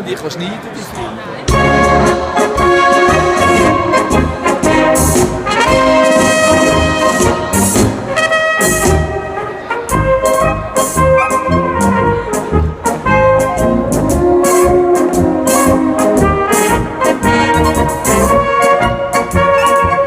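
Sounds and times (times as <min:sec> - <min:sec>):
brass band playing a polka: 0:01.4 - 0:20.0.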